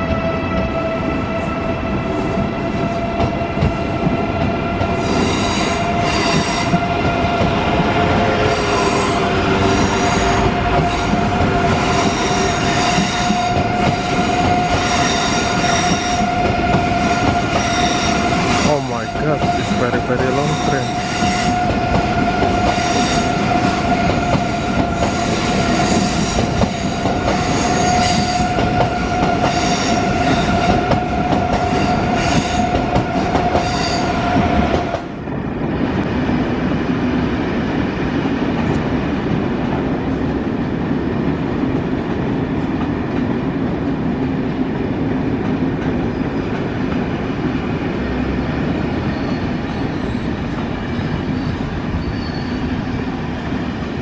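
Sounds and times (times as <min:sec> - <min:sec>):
standing train hum: 0:00.0 - 0:54.0
train high whine: 0:00.0 - 0:54.0.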